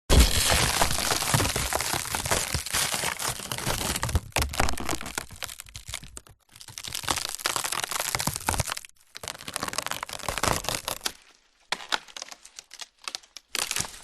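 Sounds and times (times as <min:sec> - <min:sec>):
wood cracking and splintering: 0:00.1 - 0:14.0.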